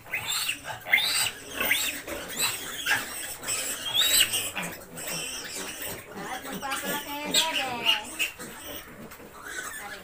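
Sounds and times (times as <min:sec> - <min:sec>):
piglet squealing: 0:00.0 - 0:10.0.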